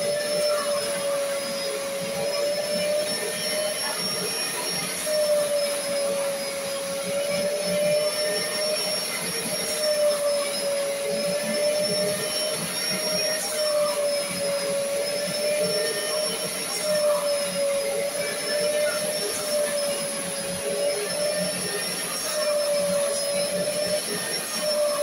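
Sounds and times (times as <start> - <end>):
vacuum motor whine: 0.0 - 25.0.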